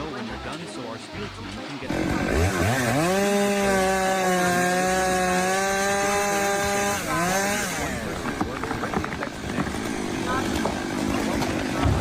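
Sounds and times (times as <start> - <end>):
power tool motor spinning: 1.9 - 11.8.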